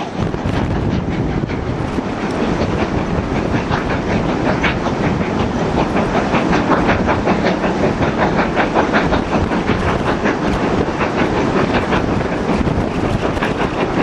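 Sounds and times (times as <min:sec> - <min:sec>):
steam locomotive exhaust beats: 0:00.0 - 0:14.0.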